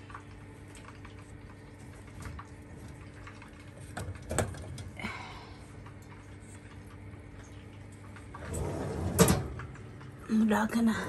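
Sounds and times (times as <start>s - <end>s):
oven humming: 0.0s - 11.0s.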